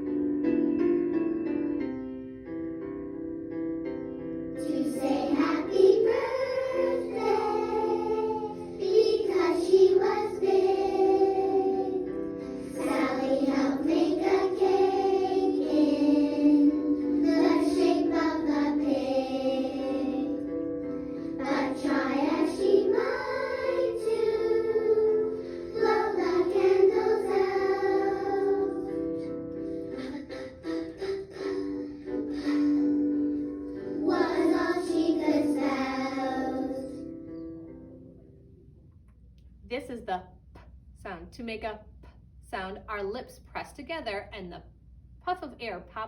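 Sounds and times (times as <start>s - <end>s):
children's song with backing music: 0.0s - 38.4s.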